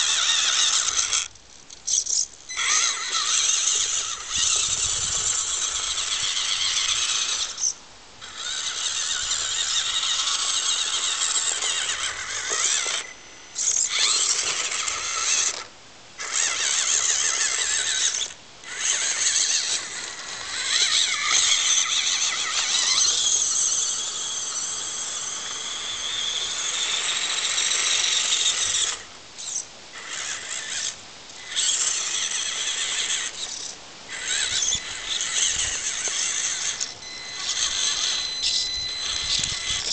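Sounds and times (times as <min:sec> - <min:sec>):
toy truck motor whining: 0:00.0 - 0:39.9.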